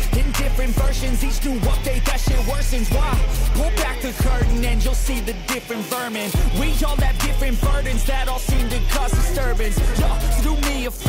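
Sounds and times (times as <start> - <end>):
hip-hop music with vocals: 0.0 - 11.0.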